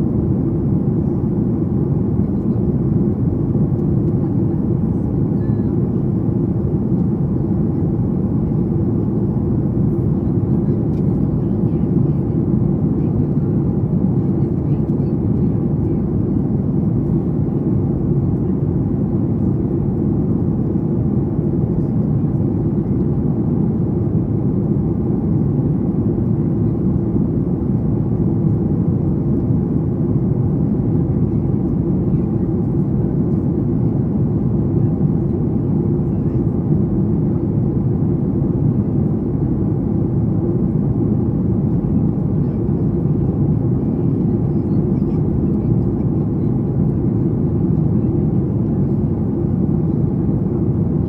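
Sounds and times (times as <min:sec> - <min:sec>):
airliner cabin rumble: 0:00.0 - 0:51.0.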